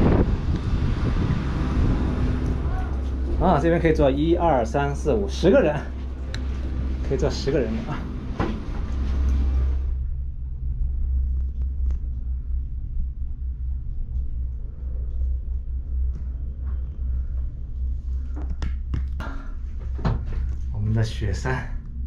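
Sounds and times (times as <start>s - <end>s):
cable car cabin rumble: 0.0s - 22.0s.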